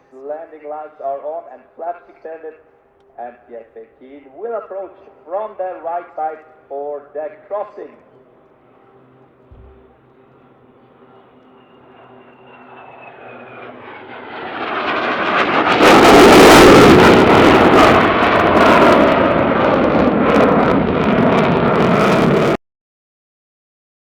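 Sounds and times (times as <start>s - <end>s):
jet fighter passing low: 3.2s - 22.6s.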